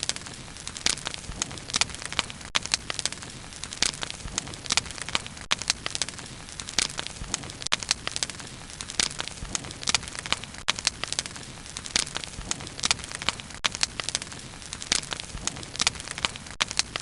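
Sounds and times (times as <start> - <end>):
bonfire wood crackling: 0.0 - 17.0.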